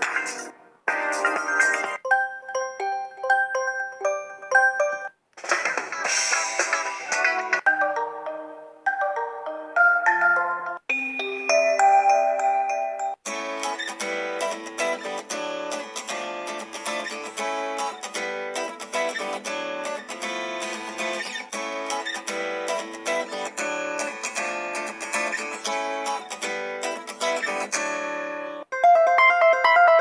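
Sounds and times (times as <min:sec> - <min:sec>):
plucked guitar ringtone: 0:00.9 - 0:05.2, 0:07.7 - 0:30.0.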